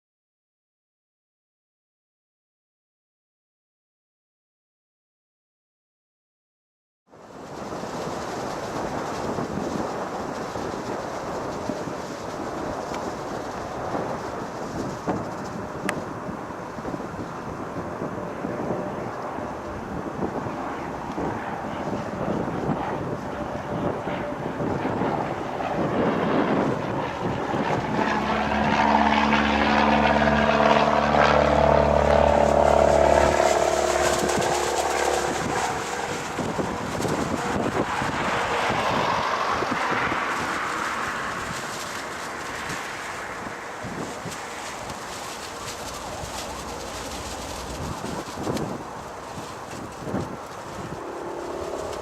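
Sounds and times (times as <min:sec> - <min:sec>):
propeller plane engine rumbling: 0:07.1 - 0:52.0
wind buffeting the microphone: 0:07.2 - 0:52.0.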